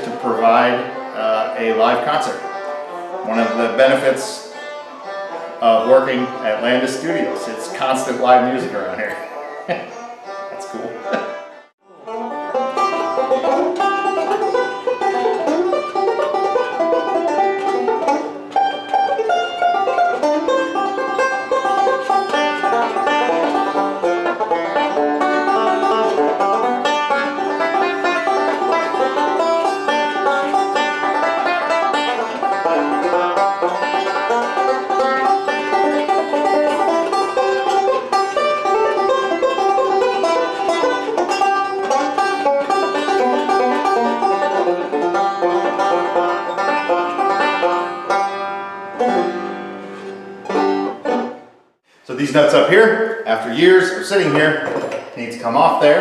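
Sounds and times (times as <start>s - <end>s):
banjo picking: 0.0s - 56.0s.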